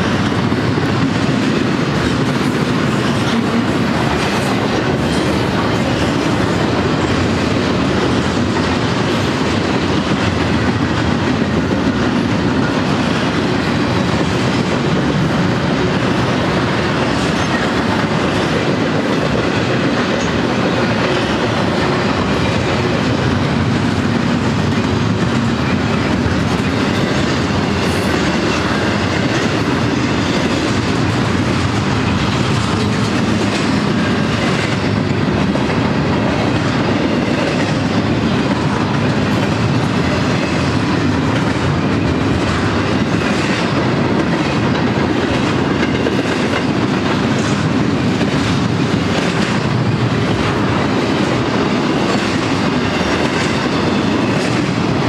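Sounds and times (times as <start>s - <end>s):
train wheels rolling on rail: 0.0s - 55.0s.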